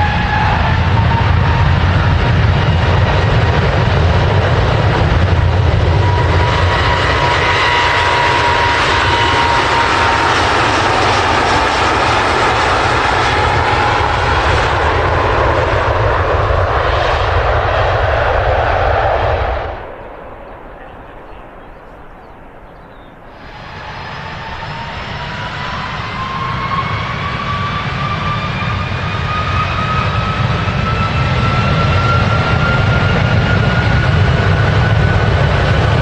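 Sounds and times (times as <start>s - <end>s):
high jet whine: 0.0s - 36.0s
jet engine blast: 0.0s - 36.0s.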